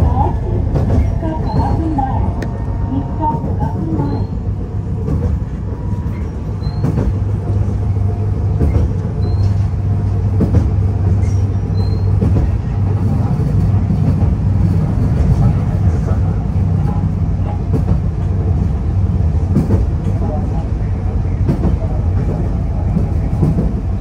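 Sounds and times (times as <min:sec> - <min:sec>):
tram low hum: 0:00.0 - 0:24.0
wheel-on-rail rumble: 0:00.0 - 0:24.0.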